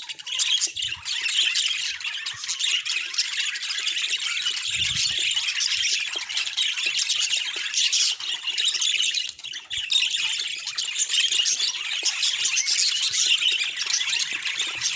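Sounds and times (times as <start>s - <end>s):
budgerigars chattering: 0.0s - 14.9s.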